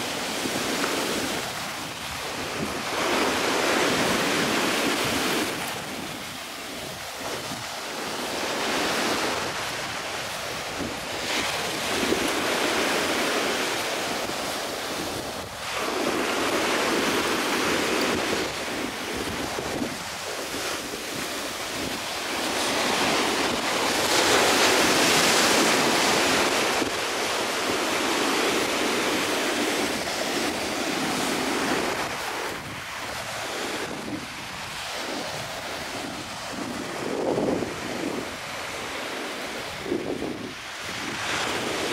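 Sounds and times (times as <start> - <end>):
ocean surf breaking: 0.0 - 41.9
wind: 0.0 - 41.9.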